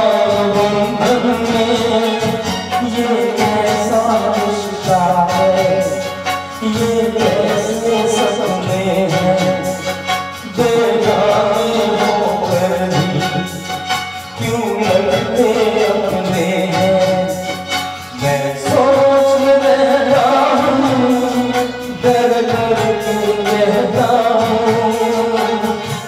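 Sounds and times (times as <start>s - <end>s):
instrumental accompaniment: 0.0s - 26.0s
man singing into microphone: 0.0s - 26.0s.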